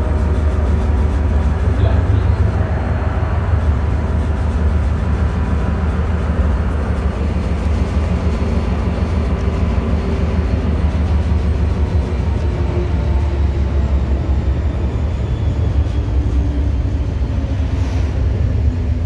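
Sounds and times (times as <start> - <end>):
faint hum: 0.0 - 19.0
train wheels rumbling on rail: 0.0 - 19.0.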